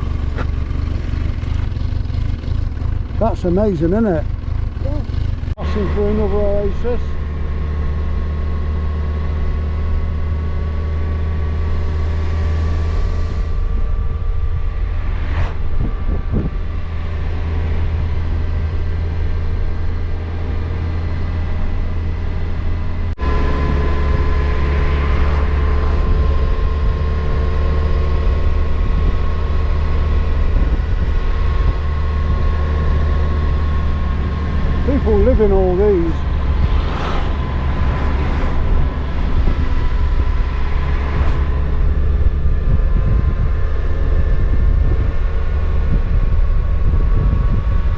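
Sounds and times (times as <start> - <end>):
motorcycle engine cruising: 0.0 - 47.9.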